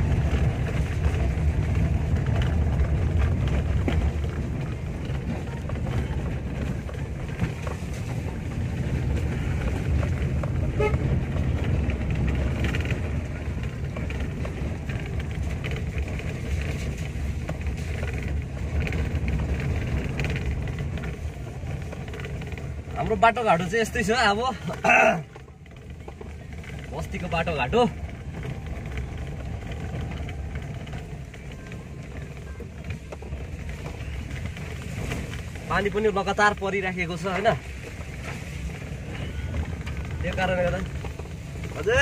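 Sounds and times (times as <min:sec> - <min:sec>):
engine and tyre rumble: 0:00.0 - 0:42.0.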